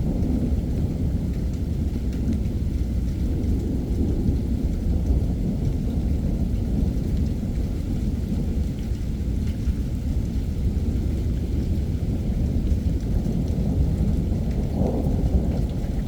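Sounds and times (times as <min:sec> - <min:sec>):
low rumble of thunder: 0:00.0 - 0:16.0
steady rain: 0:00.0 - 0:16.0.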